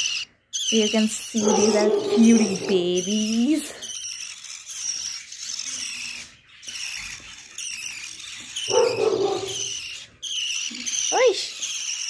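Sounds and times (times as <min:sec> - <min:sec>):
pet birds chirping: 0:00.0 - 0:12.0.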